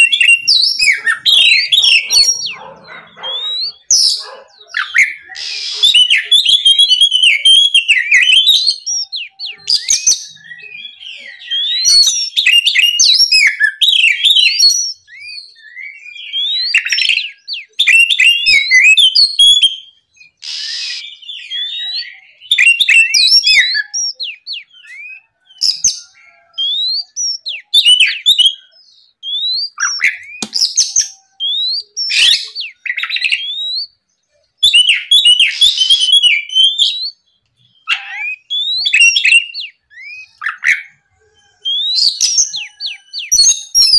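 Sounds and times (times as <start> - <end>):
songbird whistling and trilling: 0.0 - 43.9.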